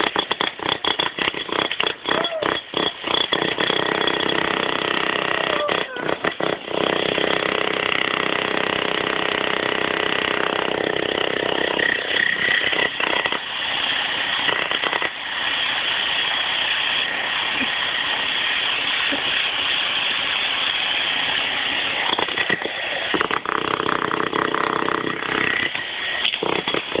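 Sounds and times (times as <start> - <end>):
jackhammer breaking concrete: 0.0 - 27.0.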